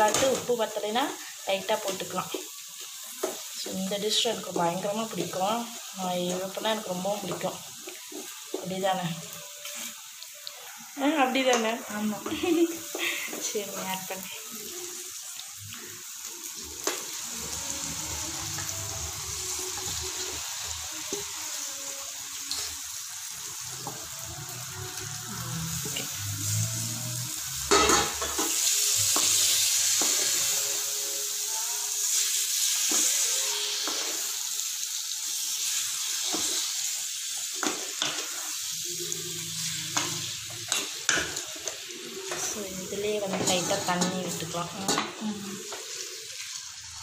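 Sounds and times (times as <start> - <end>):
chicken sizzling in oil: 0.0 - 47.0.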